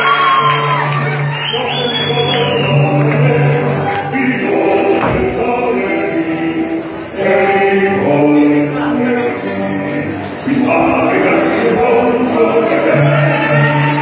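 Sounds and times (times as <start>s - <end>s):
choir singing long held notes: 0.0s - 14.0s.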